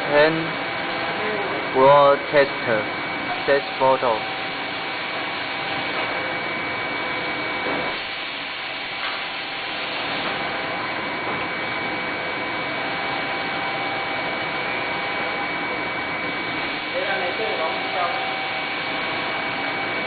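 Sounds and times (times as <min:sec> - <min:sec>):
air blower whirring: 0:00.0 - 0:20.0.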